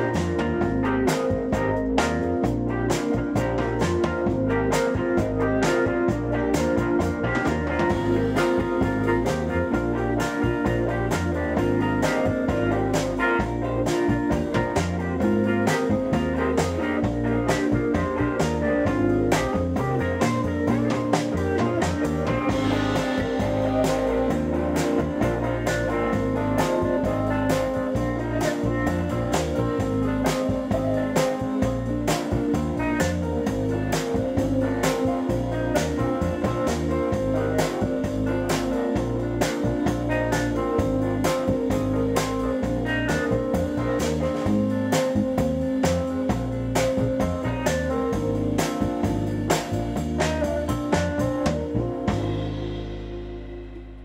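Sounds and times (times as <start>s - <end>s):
drum kit beat: 0.0s - 54.0s
electric guitar: 0.0s - 54.0s.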